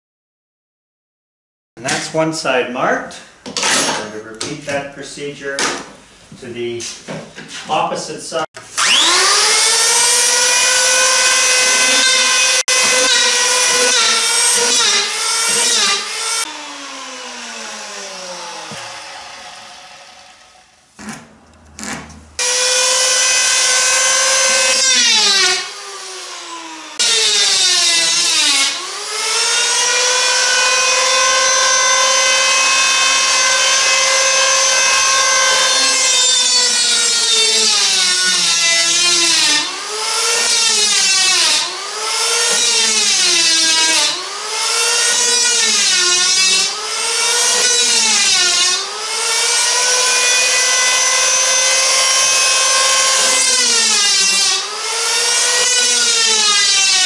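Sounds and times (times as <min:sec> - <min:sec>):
electric power planer whining: 0:08.7 - 0:20.8, 0:22.4 - 0:45.4, 0:46.0 - 0:56.8.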